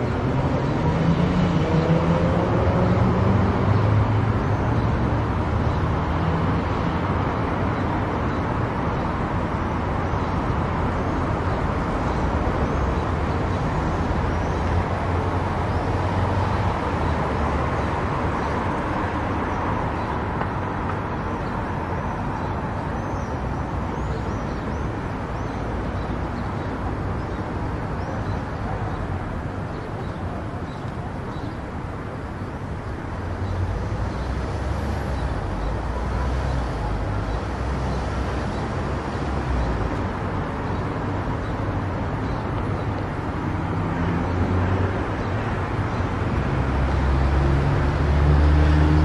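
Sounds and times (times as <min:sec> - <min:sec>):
car tyre and engine noise: 0:00.0 - 0:49.0.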